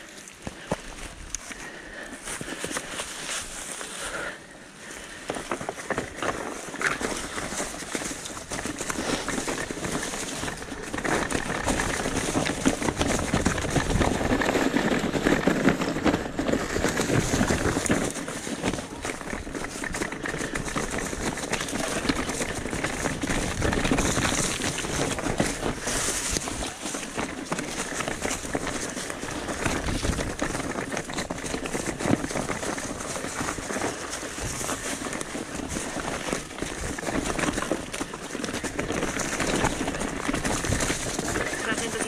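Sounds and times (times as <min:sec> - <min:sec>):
bike rattling over stony trail: 0:00.0 - 0:42.0.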